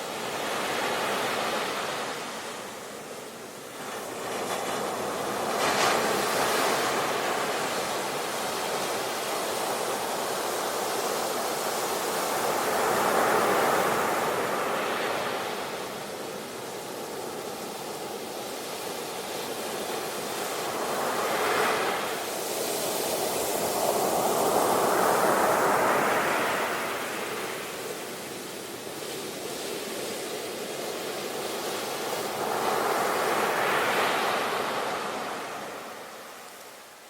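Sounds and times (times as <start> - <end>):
sea waves breaking on shore: 0.0 - 37.0.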